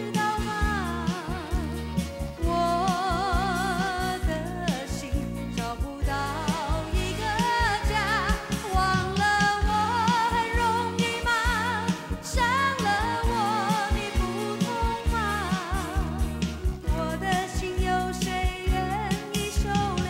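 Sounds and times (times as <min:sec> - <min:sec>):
backing band with drum beat: 0:00.0 - 0:20.0
woman singing with vibrato: 0:00.0 - 0:20.0.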